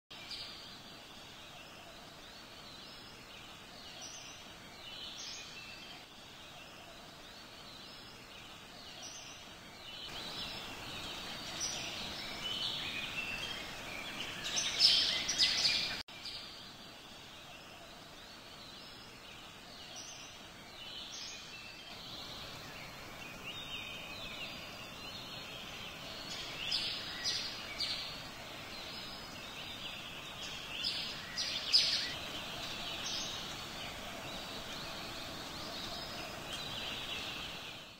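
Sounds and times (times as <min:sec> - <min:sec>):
songbirds calling: 0:00.1 - 0:37.9
steady background hiss: 0:00.1 - 0:37.9.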